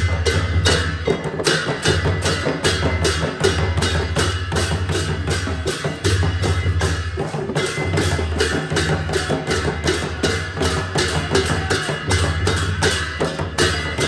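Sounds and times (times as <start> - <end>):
barrel drums beaten: 0.0 - 14.0
brass cymbals clashing: 0.0 - 14.0.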